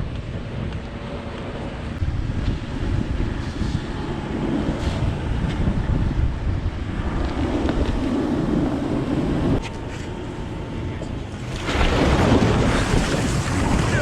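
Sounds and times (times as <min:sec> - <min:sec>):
low drone: 0:00.0 - 0:14.0
vehicle engine rumbling: 0:00.0 - 0:14.0.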